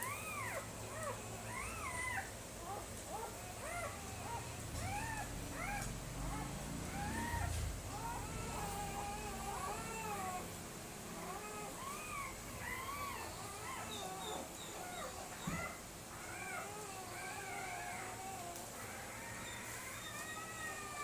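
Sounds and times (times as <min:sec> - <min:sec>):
puppies whining and whimpering: 0:00.0 - 0:21.0.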